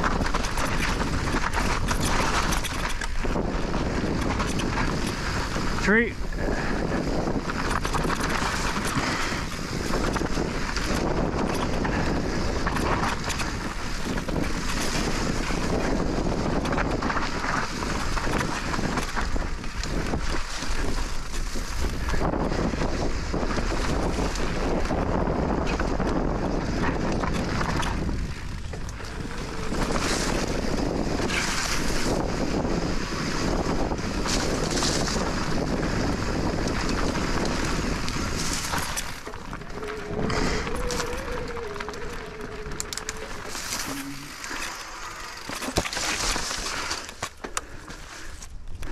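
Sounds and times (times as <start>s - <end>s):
bike clattering on rocky trail: 0.0s - 5.9s, 6.7s - 48.9s
wind on microphone: 0.0s - 48.9s.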